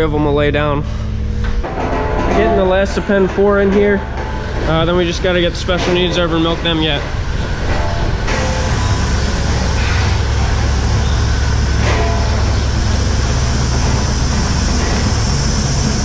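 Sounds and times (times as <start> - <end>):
milking machinery hum: 0.3 - 16.0.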